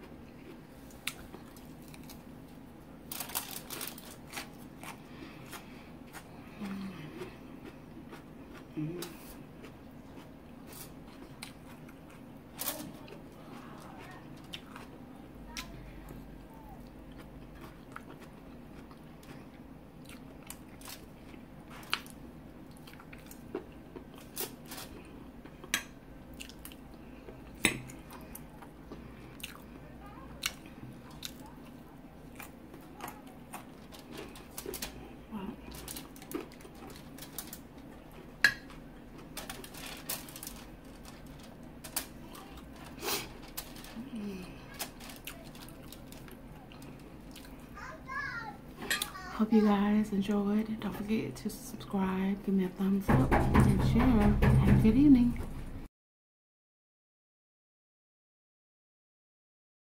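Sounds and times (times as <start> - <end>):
chewing and crunching food: 0.0 - 49.7
faint steady hum: 0.0 - 55.9.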